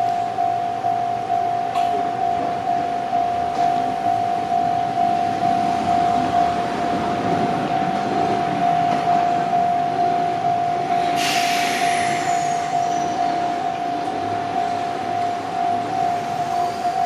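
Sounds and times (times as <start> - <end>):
level-crossing alarm ringing: 0.0 - 17.0
train wheels rumbling: 1.4 - 17.0.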